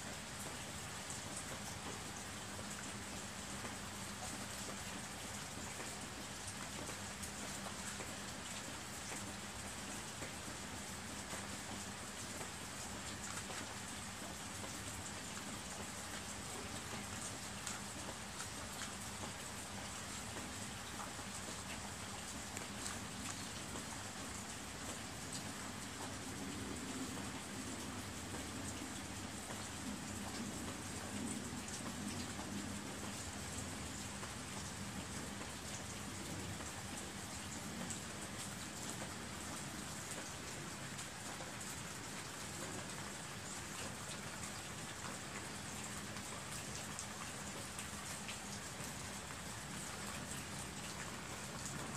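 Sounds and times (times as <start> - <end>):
steady rain falling: 0.0 - 51.9
water drips ticking: 0.3 - 51.9.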